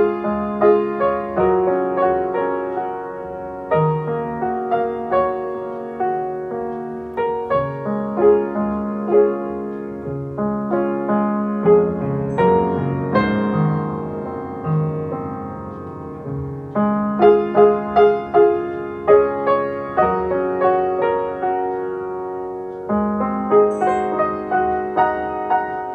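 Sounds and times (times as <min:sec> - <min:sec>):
solo piano music: 0:00.0 - 0:25.9.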